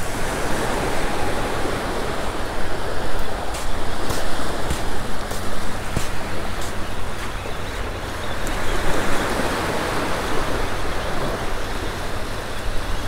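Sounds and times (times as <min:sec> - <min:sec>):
surf washing onto sandy beach: 0:00.0 - 0:12.8.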